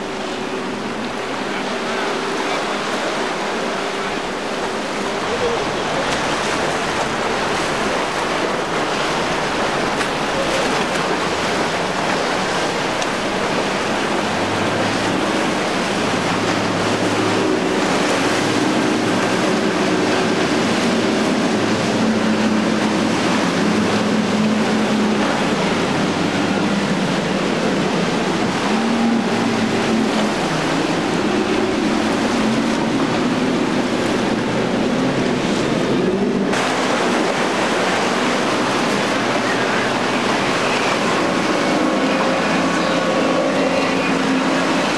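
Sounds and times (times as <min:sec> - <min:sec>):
churning water and waves: 0:00.0 - 0:44.9
outboard motor running: 0:00.0 - 0:44.9.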